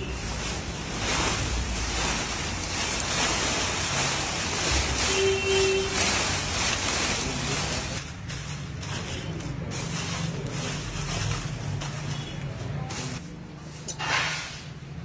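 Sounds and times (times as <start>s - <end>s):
leaves shuffled by hand: 0.0s - 13.2s
dry leaves rustling on concrete: 0.0s - 14.7s.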